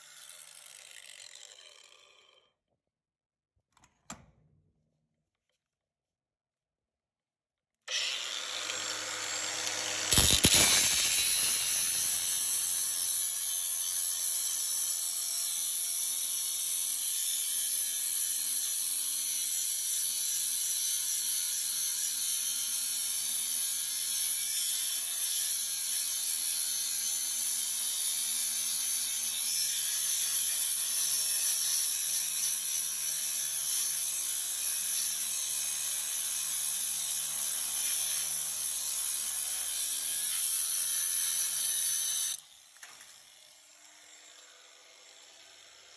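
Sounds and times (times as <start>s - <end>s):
angle grinder cutting steel: 0.0s - 2.4s, 7.9s - 45.9s.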